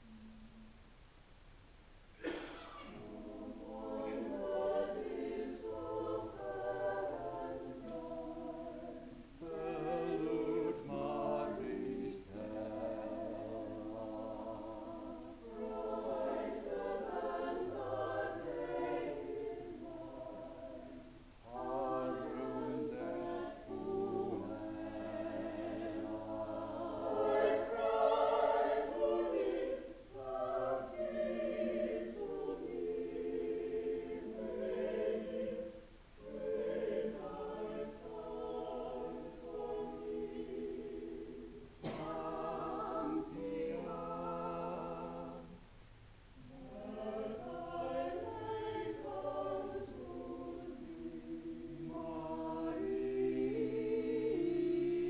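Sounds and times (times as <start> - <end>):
choir singing: 2.2 - 45.6, 46.4 - 55.0.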